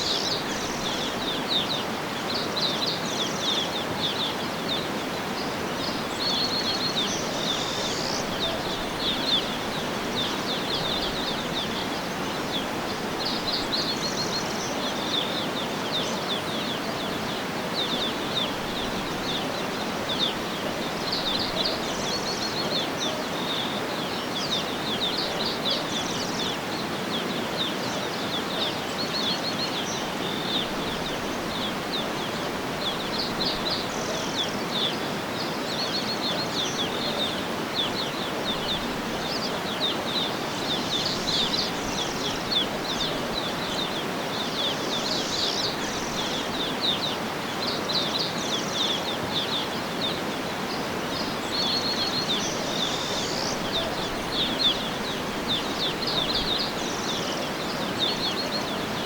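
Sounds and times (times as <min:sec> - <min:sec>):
outdoor background hiss: 0:00.0 - 0:59.0
small birds chirping and trilling: 0:00.0 - 0:59.0.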